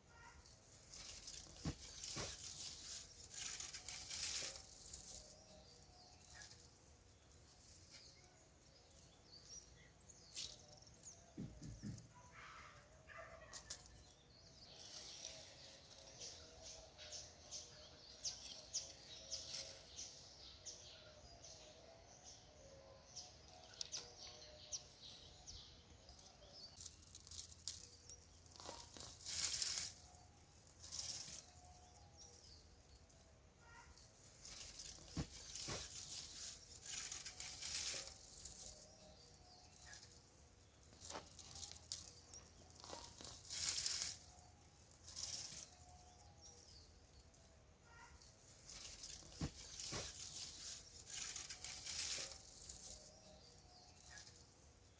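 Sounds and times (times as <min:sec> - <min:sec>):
digging in loose soil: 0:00.0 - 0:22.2, 0:23.1 - 0:54.9.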